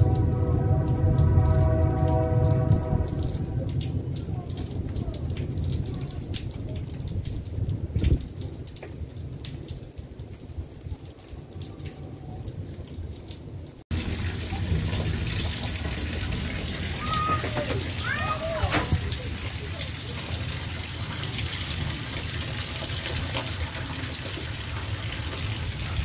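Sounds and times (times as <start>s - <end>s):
rain hissing: 0.0s - 26.0s
raindrops ticking close by: 0.0s - 26.0s.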